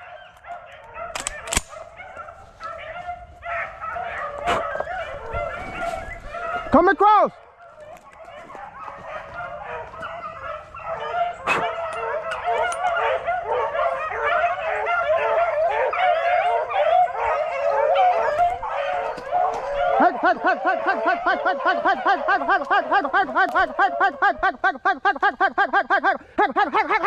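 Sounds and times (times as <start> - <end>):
dog barking rapidly: 0.0 - 6.9, 7.5 - 23.9
pack of dogs baying: 0.0 - 27.0.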